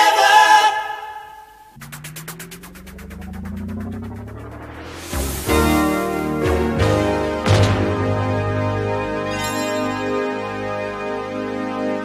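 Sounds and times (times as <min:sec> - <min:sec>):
keyboard and organ chords: 0:01.8 - 0:12.0.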